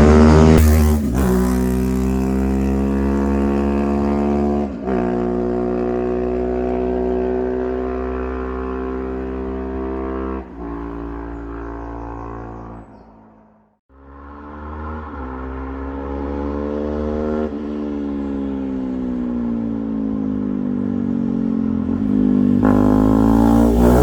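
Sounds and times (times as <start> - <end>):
motorcycle engine running: 0.0 - 13.4, 14.0 - 24.0.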